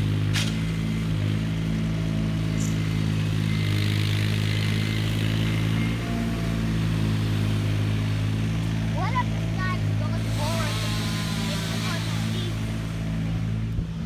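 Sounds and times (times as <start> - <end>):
truck engine running with throb: 0.0 - 14.0.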